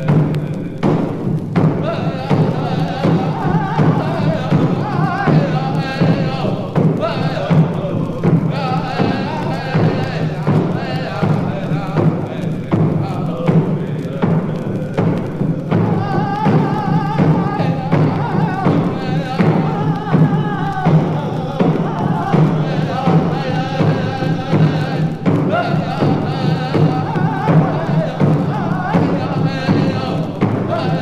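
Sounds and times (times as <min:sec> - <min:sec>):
steady drum beat: 0:00.0 - 0:31.0.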